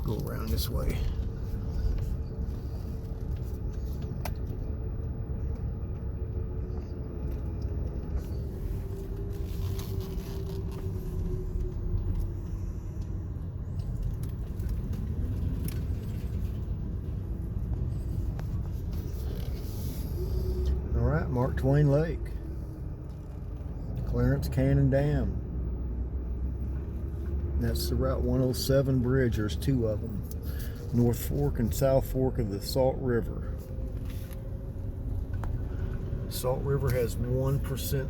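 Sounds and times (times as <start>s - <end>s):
car engine and tyres rumbling: 0.0s - 38.0s.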